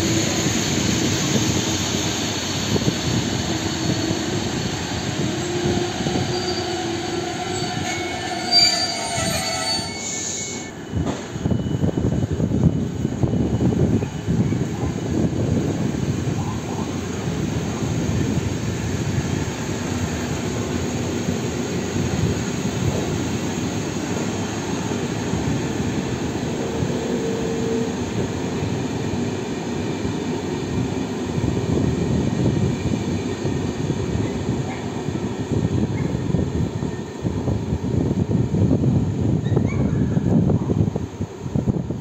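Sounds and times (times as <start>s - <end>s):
train coaches rumbling on rails: 0.0s - 42.0s.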